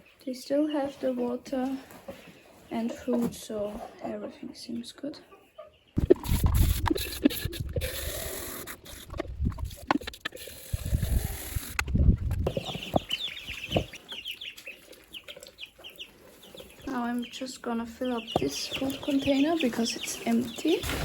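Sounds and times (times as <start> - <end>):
hens chirping and clucking: 0.0 - 21.0.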